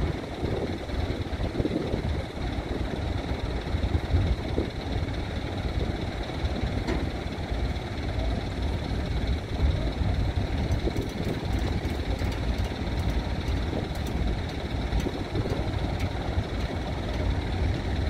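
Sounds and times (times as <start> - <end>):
wind buffeting microphone: 0.0 - 7.5, 9.5 - 18.0
marine diesel engine rumble: 0.0 - 18.0.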